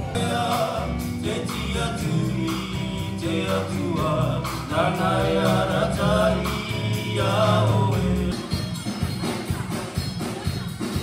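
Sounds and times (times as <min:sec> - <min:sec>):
drum kit: 0:00.0 - 0:11.0
guitar: 0:00.0 - 0:11.0.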